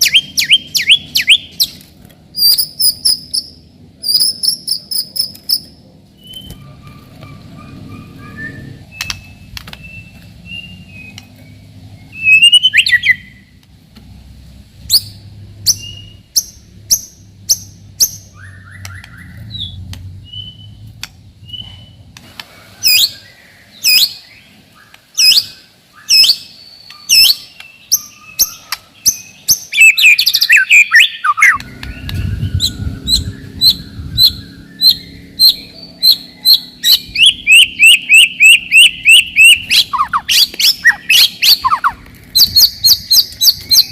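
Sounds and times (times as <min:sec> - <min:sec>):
bird singing whistles and chirps: 0:00.0 - 0:01.8, 0:06.2 - 0:07.0, 0:07.7 - 0:13.4, 0:14.9 - 0:22.1, 0:22.8 - 0:43.9.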